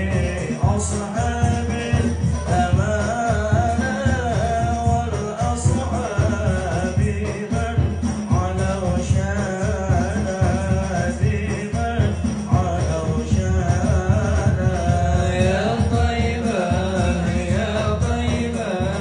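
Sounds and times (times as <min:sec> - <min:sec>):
hand drum with jingles: 0:00.0 - 0:19.0
man singing into a microphone: 0:00.0 - 0:19.0.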